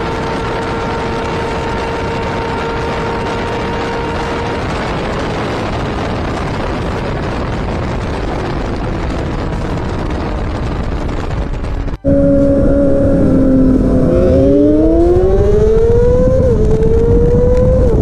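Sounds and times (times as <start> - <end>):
vehicle engine noise: 0.0 - 18.0
wind on microphone: 0.0 - 18.0.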